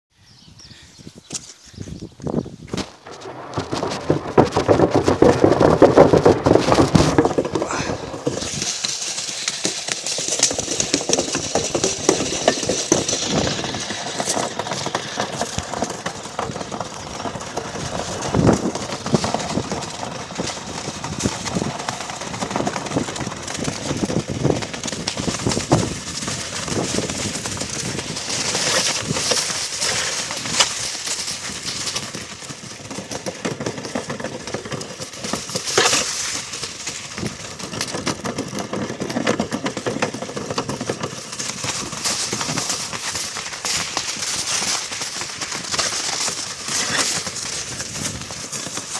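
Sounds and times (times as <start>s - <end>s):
wind and handling noise: 0.3s - 48.9s
small knocks and bumps: 2.2s - 48.9s
sliding scrape on icy road: 2.7s - 48.9s.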